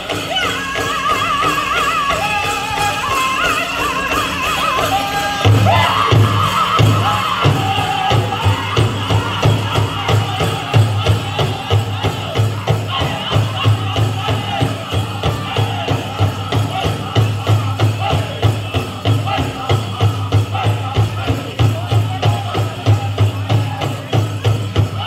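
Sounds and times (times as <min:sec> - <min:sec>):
group singing: 0:00.0 - 0:25.0
leg bells jingling: 0:00.0 - 0:25.0
big drum beat: 0:04.6 - 0:25.0.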